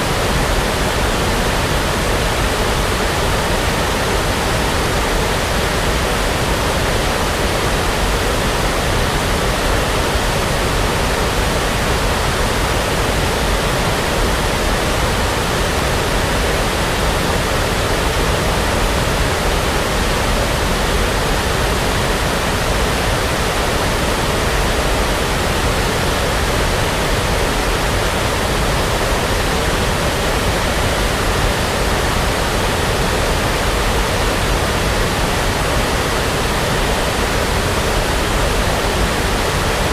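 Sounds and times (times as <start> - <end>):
steady brown noise: 0.0 - 39.9.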